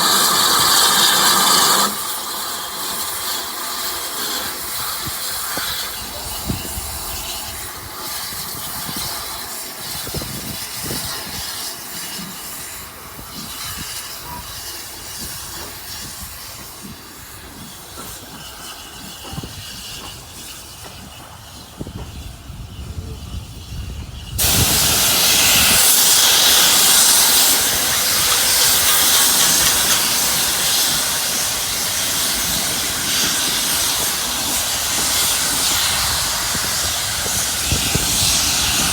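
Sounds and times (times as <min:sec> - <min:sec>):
loud hiss of escaping steam: 0:00.0 - 0:38.9.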